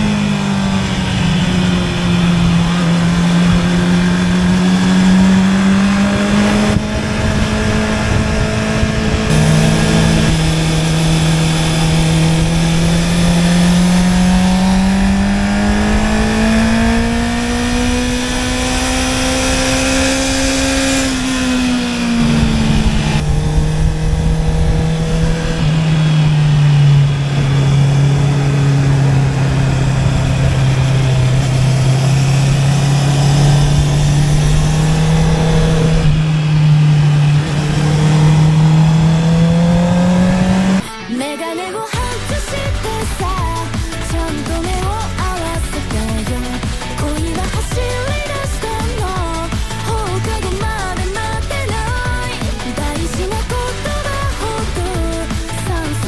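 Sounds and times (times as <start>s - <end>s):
motorcycle engine under way: 0.0s - 41.1s, 41.9s - 56.0s.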